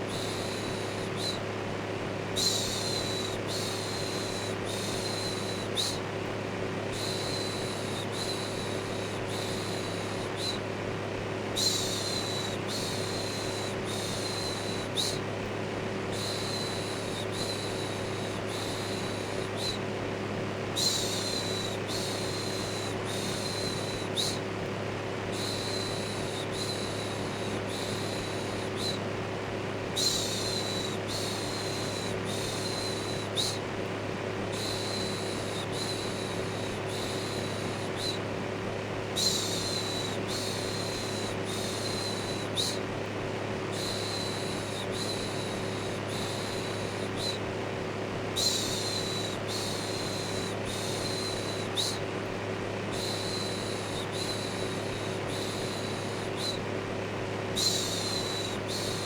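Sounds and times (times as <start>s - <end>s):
electric fan humming: 0.0s - 59.0s.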